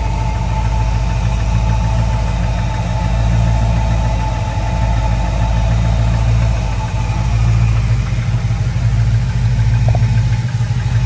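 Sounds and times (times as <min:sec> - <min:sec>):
pickup engine idling: 0:00.0 - 0:11.0.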